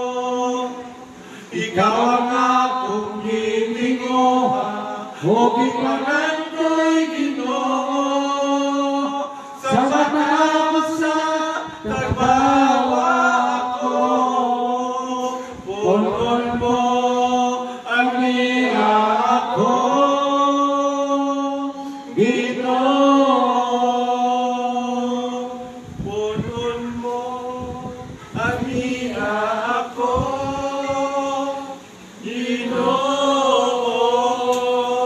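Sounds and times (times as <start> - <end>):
men singing worship song: 0.0 - 35.0.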